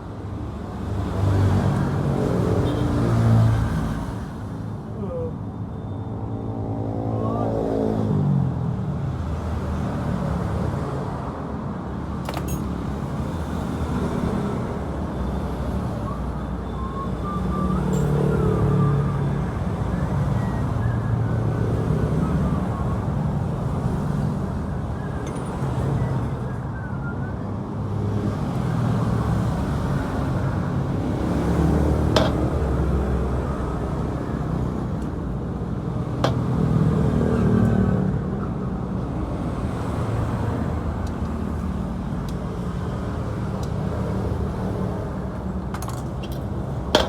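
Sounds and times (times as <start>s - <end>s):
traffic engines rumbling: 0.0s - 47.0s.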